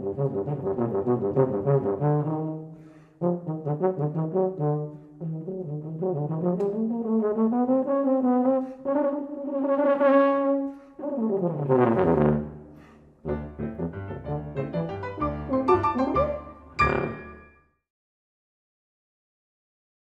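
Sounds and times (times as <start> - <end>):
tuba playing ragtime: 0.0 - 17.5.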